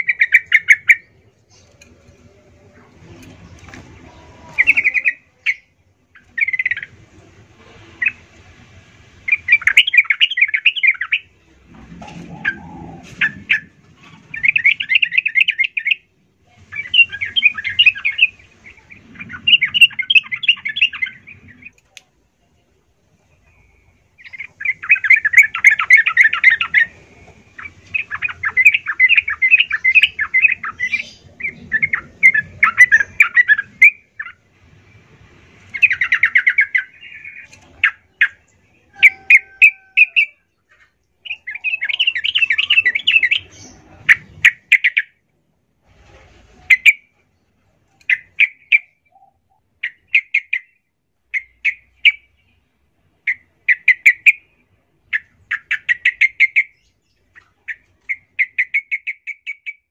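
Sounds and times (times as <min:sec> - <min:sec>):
bird chattering song: 0:00.0 - 0:07.0, 0:09.2 - 0:11.4, 0:12.1 - 0:22.0, 0:23.4 - 0:34.4, 0:35.7 - 0:45.2, 0:47.9 - 0:59.9.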